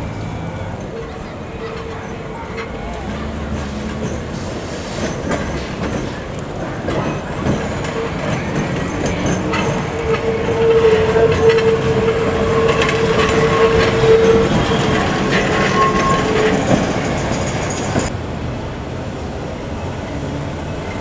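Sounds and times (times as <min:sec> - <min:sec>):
wheels clicking on track: 0:00.0 - 0:18.3
electric tram on rails: 0:00.0 - 0:21.0.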